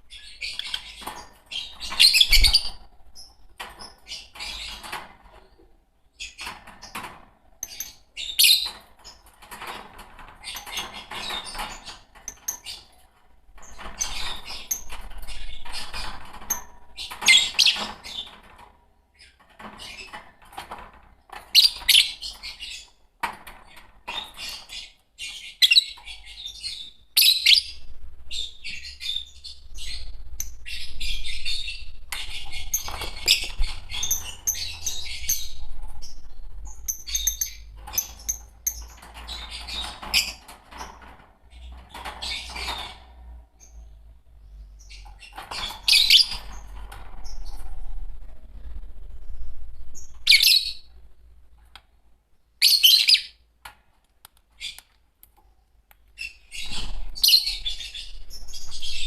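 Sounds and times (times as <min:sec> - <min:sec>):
lovebirds chirping and squawking: 0:00.0 - 0:53.5, 0:54.4 - 0:59.0.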